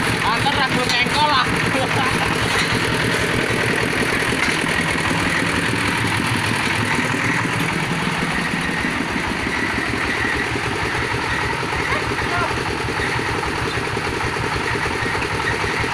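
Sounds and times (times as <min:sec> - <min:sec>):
drilling machine engine running: 0:00.0 - 0:15.9.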